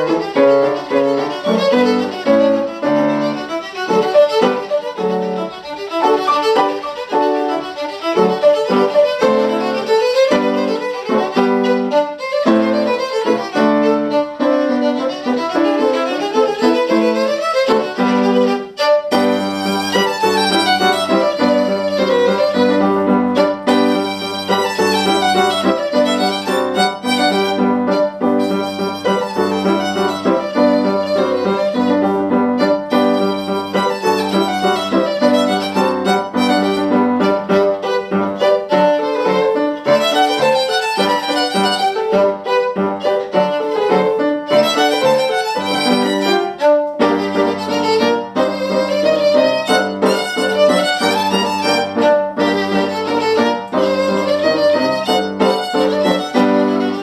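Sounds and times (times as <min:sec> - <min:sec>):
piano accompaniment: 0:00.0 - 0:57.0
solo violin fast passage: 0:00.0 - 0:57.0.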